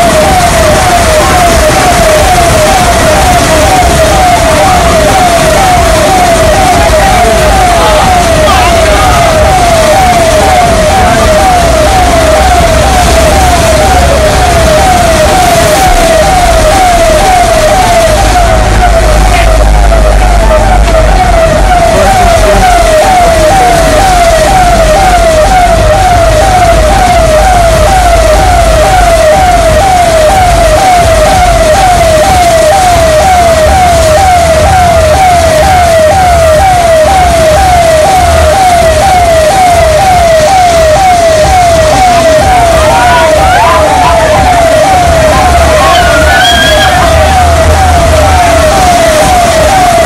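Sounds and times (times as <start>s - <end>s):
electronic siren: 0.0s - 50.0s.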